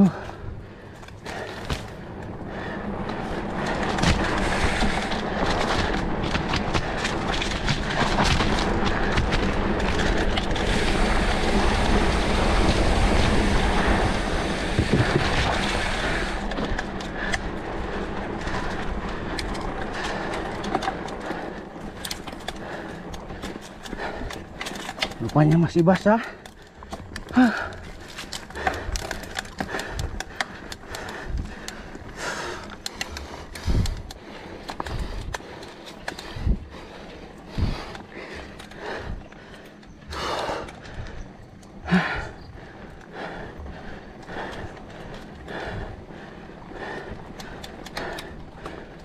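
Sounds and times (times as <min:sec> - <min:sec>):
bike rattling over bumps: 0:00.0 - 0:49.0
wind and tyre noise: 0:00.0 - 0:49.0.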